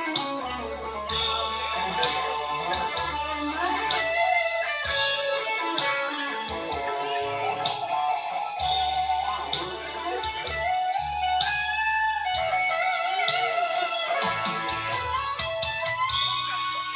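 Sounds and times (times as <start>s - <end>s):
bass notes: 0.0s - 16.9s
electric guitar melody: 0.0s - 16.9s
steady beat: 0.0s - 16.9s.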